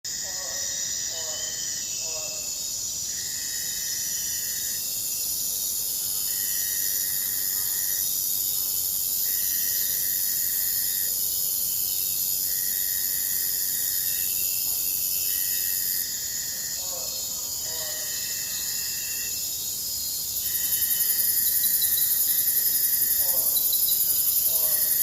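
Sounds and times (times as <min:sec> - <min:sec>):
high-pitched insects chorus: 0:00.1 - 0:25.0.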